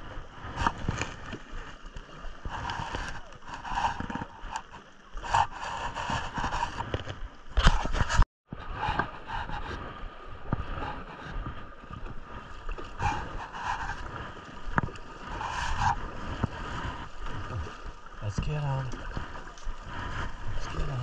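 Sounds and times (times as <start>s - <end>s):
rush of water: 0.0s - 8.2s, 8.8s - 21.0s
water splashing against a kayak: 0.0s - 21.0s.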